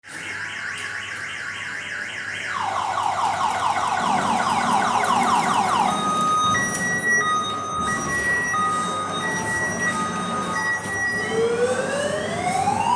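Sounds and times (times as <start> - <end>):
electronic alarm siren: 0.0 - 12.9.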